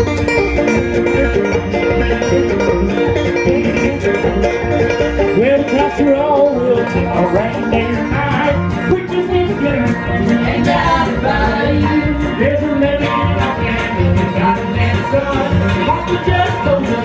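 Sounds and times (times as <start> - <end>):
bluegrass band playing: 0.0 - 17.0.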